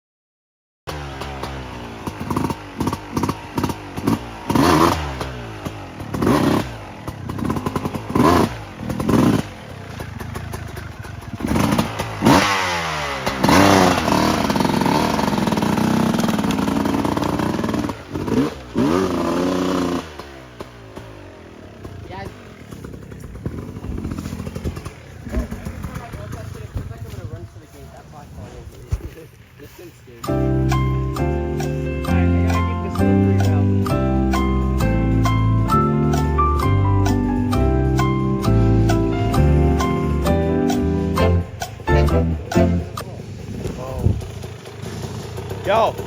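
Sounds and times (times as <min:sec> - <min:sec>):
dirt bike engines revving: 0:00.9 - 0:46.0.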